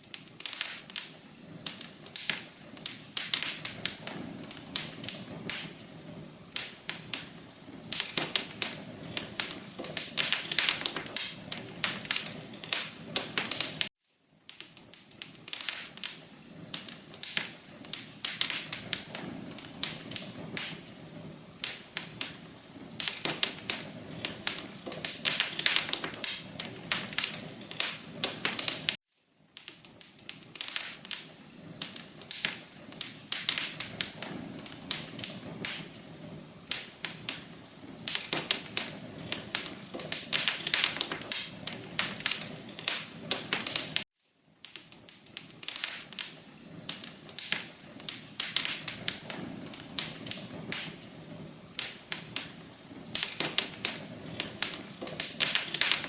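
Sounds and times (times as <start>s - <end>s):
soft steady hiss: 0.0s - 56.0s
wood fire crackling: 0.0s - 56.0s.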